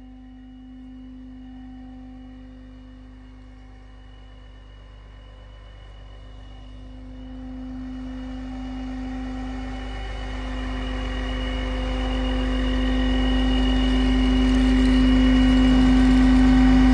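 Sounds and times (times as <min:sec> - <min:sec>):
vacuum blower humming: 0:00.0 - 0:16.9.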